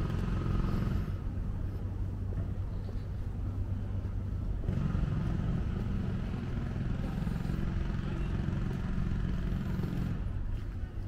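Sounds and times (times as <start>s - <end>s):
low hum: 0.0s - 11.0s
vehicle engine running: 0.0s - 11.0s.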